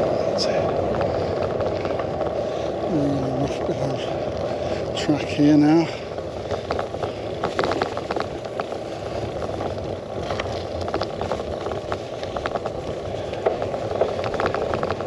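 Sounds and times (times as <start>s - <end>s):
bike clicks and rattles: 0.0s - 15.0s
bike tyre rumble on stones: 0.0s - 15.0s.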